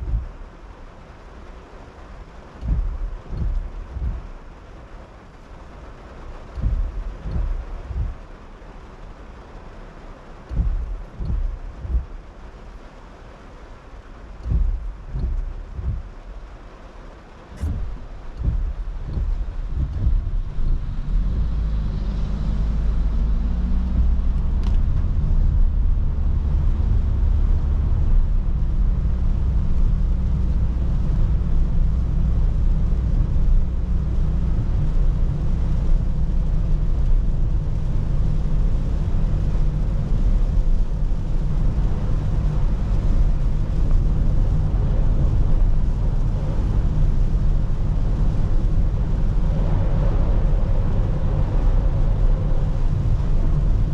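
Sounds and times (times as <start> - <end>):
car driving rumble: 0.0 - 53.9
rain hiss: 0.0 - 53.9.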